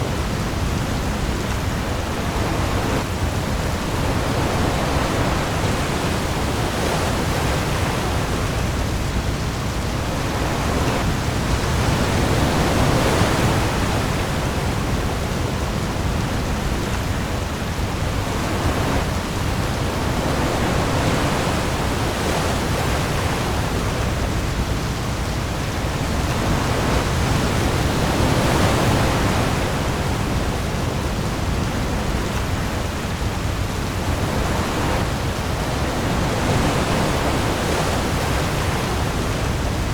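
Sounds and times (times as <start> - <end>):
heavy rain on the sea: 0.0 - 39.9
waves: 0.0 - 39.9.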